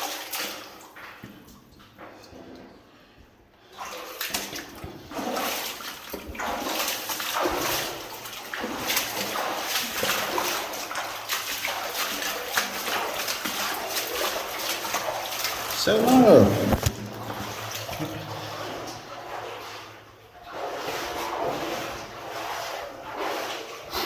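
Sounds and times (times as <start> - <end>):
water splashing from wading: 0.0 - 1.2, 3.7 - 24.0.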